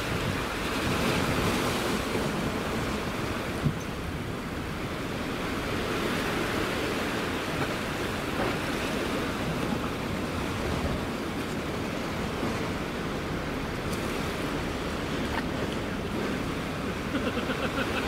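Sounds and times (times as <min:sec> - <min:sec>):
wind rumbling on microphone: 0:00.0 - 0:17.1
sea wash: 0:00.0 - 0:18.0.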